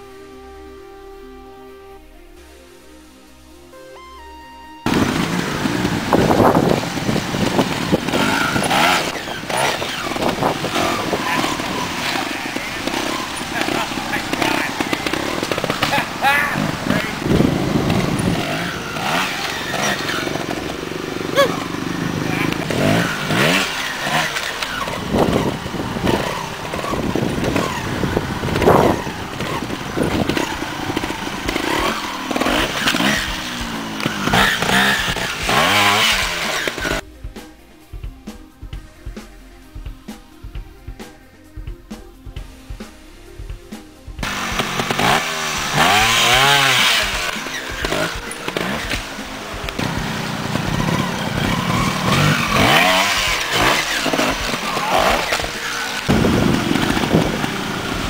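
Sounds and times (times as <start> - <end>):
motorcycle engine revving: 4.8 - 58.0.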